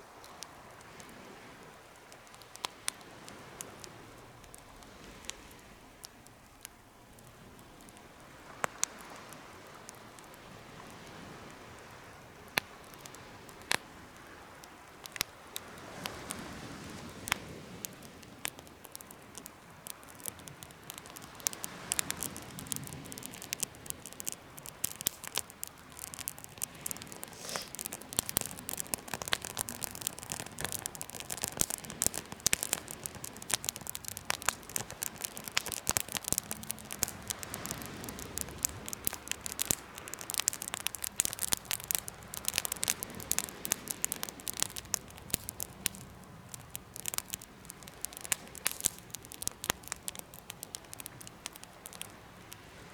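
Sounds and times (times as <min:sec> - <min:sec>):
faint steady hiss: 0:00.0 - 0:52.9
wood fire crackling: 0:00.0 - 0:52.9.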